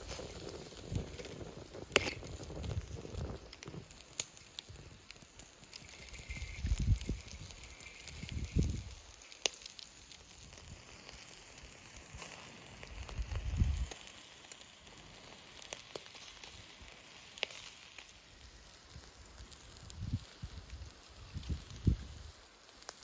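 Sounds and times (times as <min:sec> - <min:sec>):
campfire crackling and popping: 0:00.0 - 0:23.0
meat sizzling: 0:00.0 - 0:23.0.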